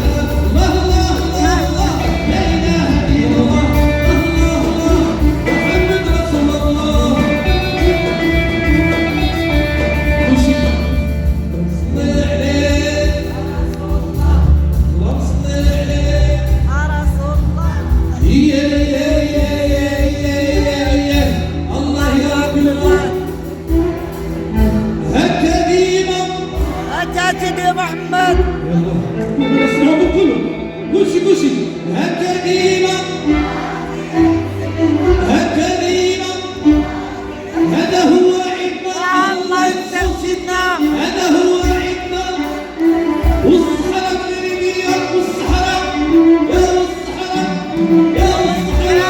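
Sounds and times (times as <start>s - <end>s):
instrumental accompaniment with beat: 0.0s - 49.0s
person singing live: 0.0s - 49.0s.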